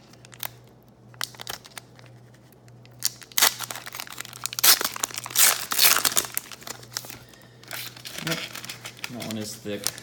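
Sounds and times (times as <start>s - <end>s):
wrapper crinkling and tearing: 0.1s - 10.0s.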